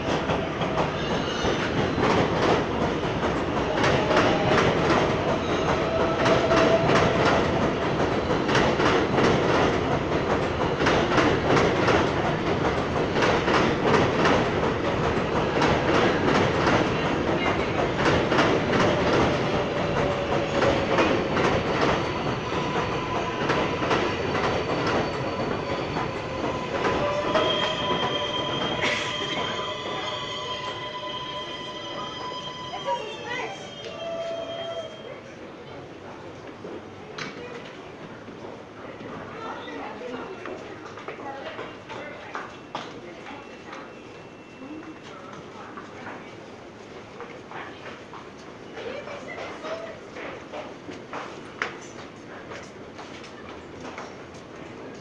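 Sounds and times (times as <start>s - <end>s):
subway train wheel clatter: 0.0s - 55.0s.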